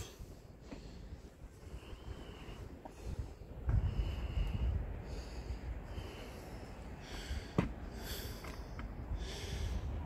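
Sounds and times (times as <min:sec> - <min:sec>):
person breathing hard and sniffing: 0:00.0 - 0:10.0.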